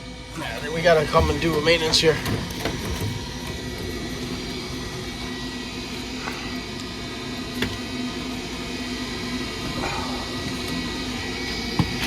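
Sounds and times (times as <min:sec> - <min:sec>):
gas furnace humming and whining: 0:00.0 - 0:12.0.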